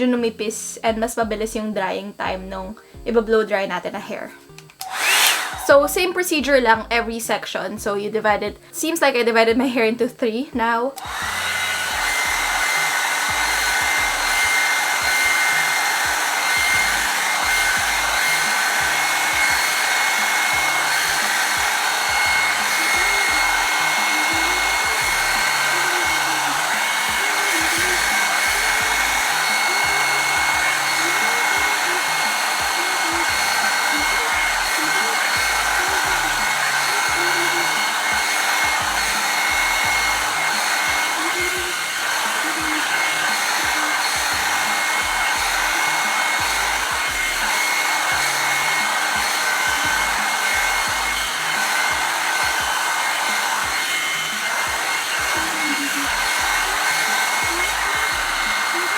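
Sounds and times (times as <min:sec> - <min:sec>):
hair dryer running: 0:04.5 - 0:07.2, 0:11.0 - 0:58.9.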